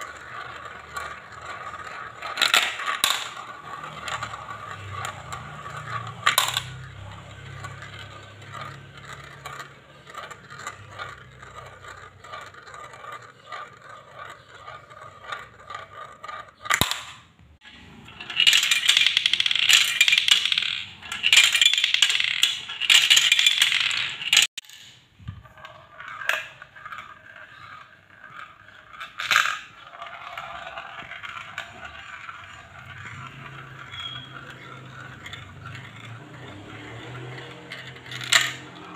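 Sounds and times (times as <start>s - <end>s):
dense marble clattering: 0.0s - 38.9s
marbles clicking: 0.0s - 38.9s
marbles rolling in plastic funnels: 0.0s - 38.9s.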